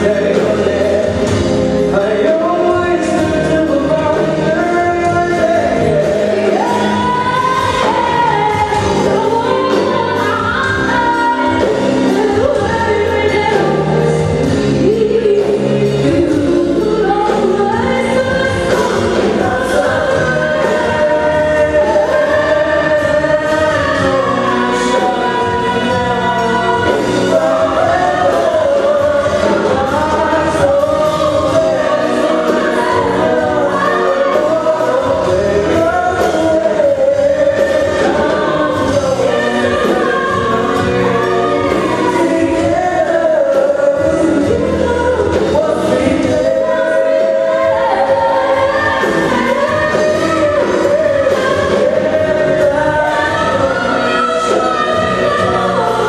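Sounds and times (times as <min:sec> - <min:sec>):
live music: 0:00.0 - 0:56.0
person singing: 0:00.0 - 0:56.0.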